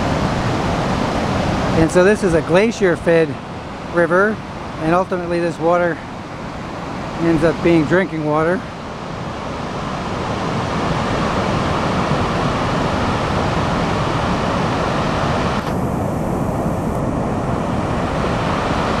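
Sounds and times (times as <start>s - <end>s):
river rushing over rapids: 0.0s - 19.0s.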